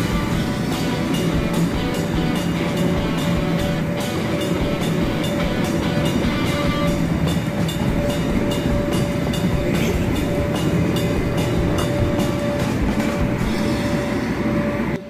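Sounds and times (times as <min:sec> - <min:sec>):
air blower droning: 0:00.0 - 0:15.0.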